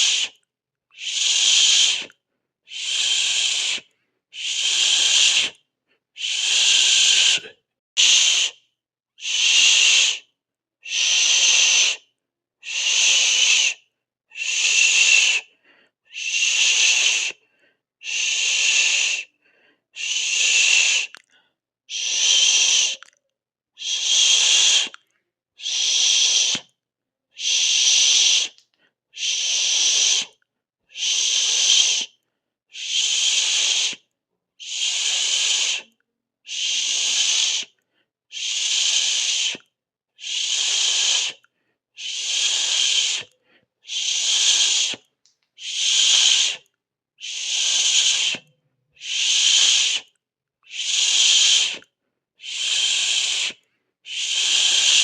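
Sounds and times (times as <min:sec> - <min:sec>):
person hissing through teeth: 0:00.0 - 0:00.4, 0:01.0 - 0:02.1, 0:02.7 - 0:05.6, 0:06.2 - 0:08.6, 0:09.2 - 0:12.0, 0:12.6 - 0:15.5, 0:16.1 - 0:17.4, 0:18.0 - 0:19.3, 0:20.0 - 0:21.2, 0:21.9 - 0:23.1, 0:23.8 - 0:25.0, 0:25.6 - 0:26.7, 0:27.4 - 0:28.6, 0:29.2 - 0:34.0, 0:34.6 - 0:55.0.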